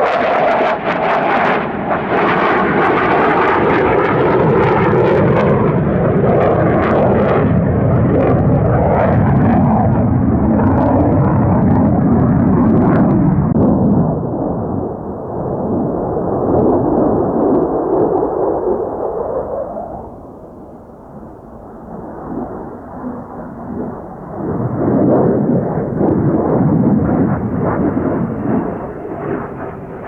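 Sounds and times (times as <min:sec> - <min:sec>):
jet engine roaring overhead: 0:00.0 - 0:30.0.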